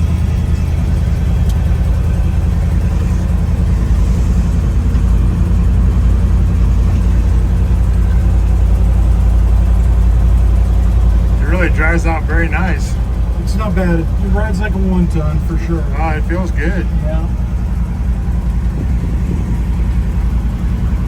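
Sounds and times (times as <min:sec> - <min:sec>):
truck engine drone from cab: 0:00.0 - 0:21.0.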